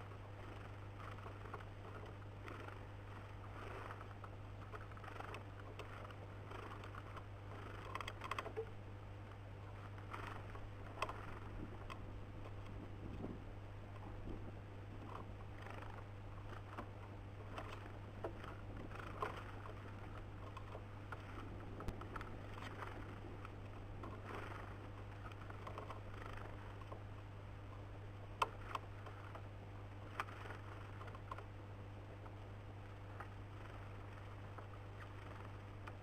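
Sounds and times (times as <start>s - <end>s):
low electrical hum: 0.0s - 36.0s
birds pecking on wooden feeder: 0.1s - 8.8s, 9.7s - 27.1s, 27.7s - 32.4s.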